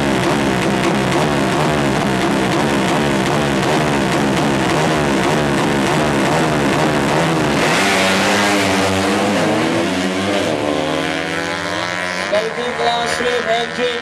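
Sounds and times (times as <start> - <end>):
moped engine revving: 0.0 - 14.0.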